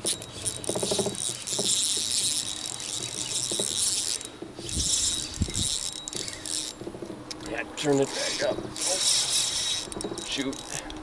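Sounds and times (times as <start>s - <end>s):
fishing reel whirring: 0.0s - 6.9s, 7.9s - 10.9s.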